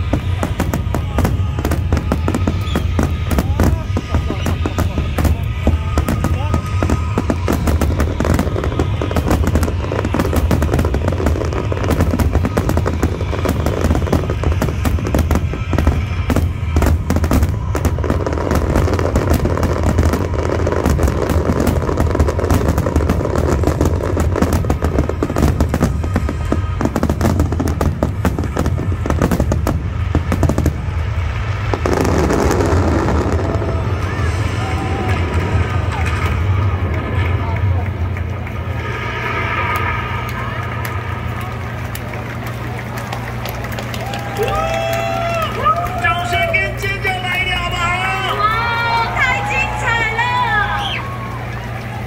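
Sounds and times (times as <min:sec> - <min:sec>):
music playing: 0:00.0 - 0:44.8
fireworks crackling and popping: 0:00.0 - 0:52.0.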